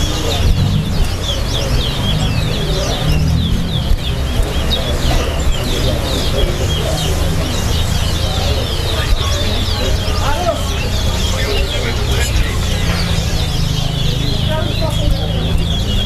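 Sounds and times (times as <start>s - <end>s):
finches singing: 0.0s - 16.0s
low steady rumble: 0.0s - 16.0s.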